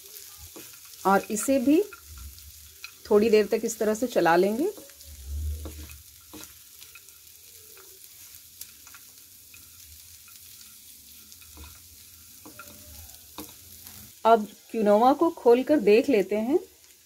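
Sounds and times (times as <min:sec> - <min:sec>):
food sizzling in a pan: 0:00.0 - 0:17.0
spatula scraping a pan: 0:00.1 - 0:14.2.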